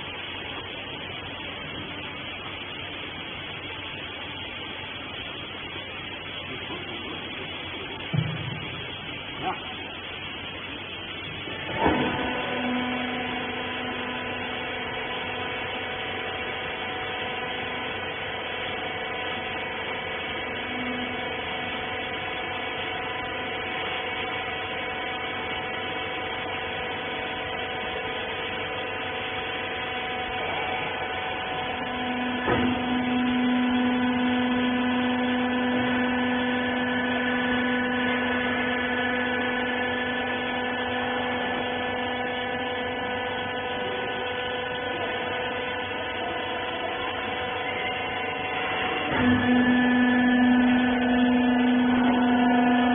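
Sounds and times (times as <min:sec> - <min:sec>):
pump motor humming: 0:00.0 - 0:52.9.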